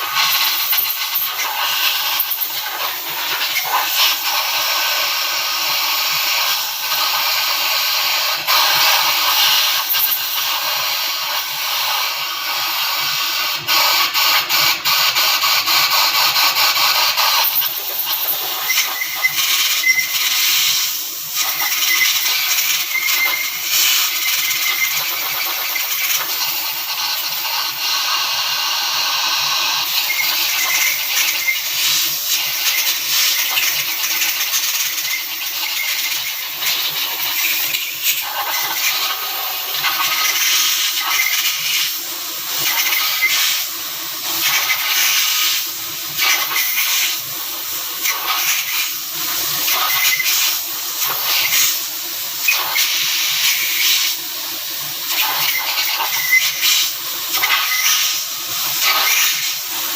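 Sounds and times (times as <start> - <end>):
loud steady hiss: 0.0 - 59.9.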